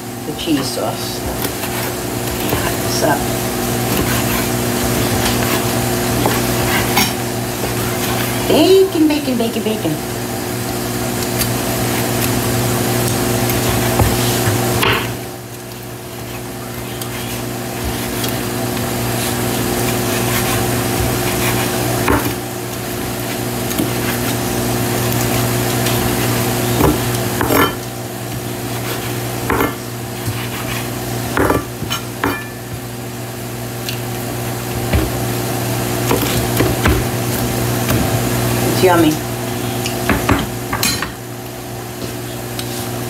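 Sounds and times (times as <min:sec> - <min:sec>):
bacon sizzling in a frying pan: 0:00.0 - 0:43.0.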